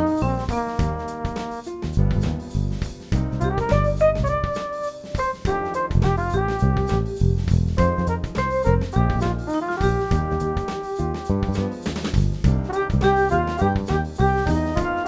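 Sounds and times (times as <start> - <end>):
instrumental jazz music: 0.0 - 15.0.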